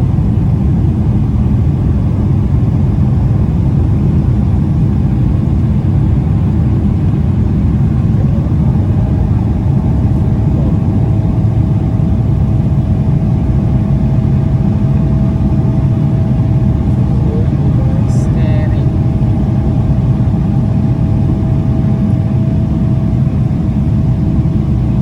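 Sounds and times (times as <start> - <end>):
jet engines rumbling: 0.0 - 25.0
thin steady whine: 4.7 - 25.0.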